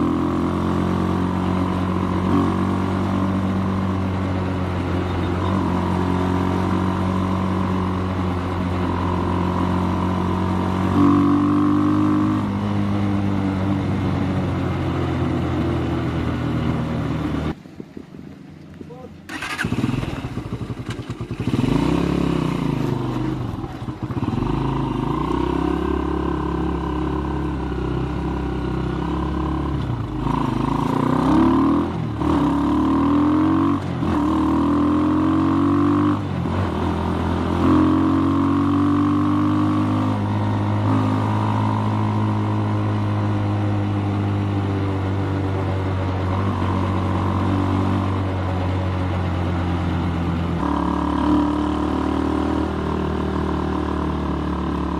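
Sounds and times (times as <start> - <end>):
motorcycle engine accelerating: 0.0 - 17.6, 19.2 - 54.9.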